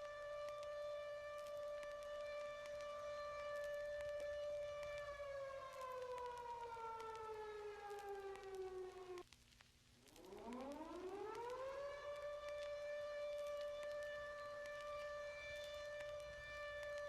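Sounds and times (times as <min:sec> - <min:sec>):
air-raid siren wailing: 0:00.0 - 0:09.2, 0:10.2 - 0:17.0
faint crackling clicks: 0:00.0 - 0:17.0.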